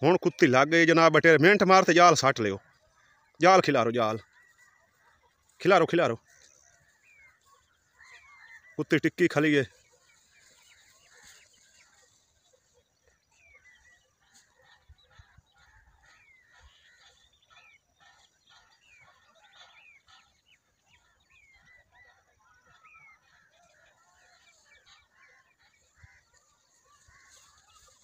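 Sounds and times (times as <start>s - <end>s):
birds chirping and whistling: 0.0s - 8.8s, 9.6s - 28.0s.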